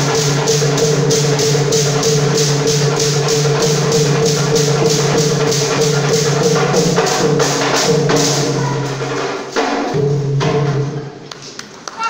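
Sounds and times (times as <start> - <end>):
barrel drum strikes: 0.0 - 11.2.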